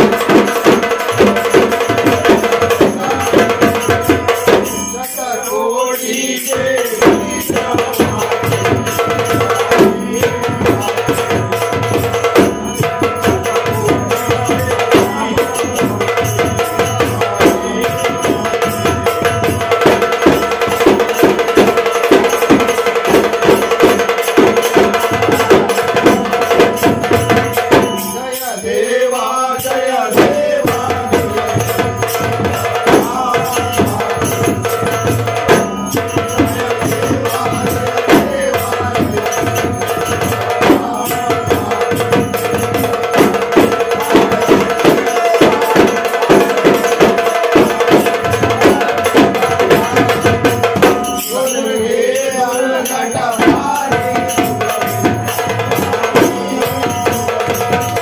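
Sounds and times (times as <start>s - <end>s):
clay pot drums played by hand: 0.0s - 5.2s, 6.5s - 58.0s
drum beaten with sticks: 0.0s - 58.0s
men singing: 0.0s - 58.0s.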